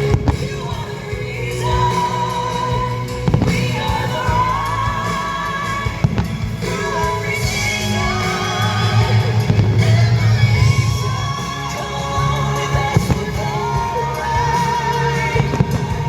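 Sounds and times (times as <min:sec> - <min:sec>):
soundtrack music with singing: 0:00.0 - 0:16.0.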